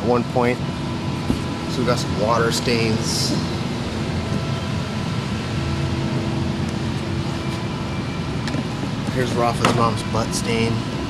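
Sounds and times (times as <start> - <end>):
low mechanical hum and rumble: 0.0 - 11.0.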